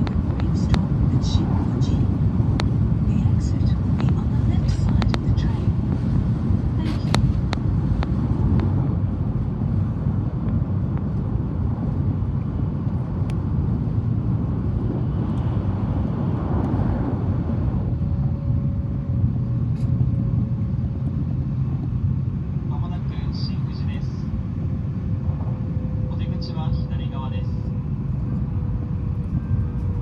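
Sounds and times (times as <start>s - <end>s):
train cabin rumble: 0.0s - 30.0s.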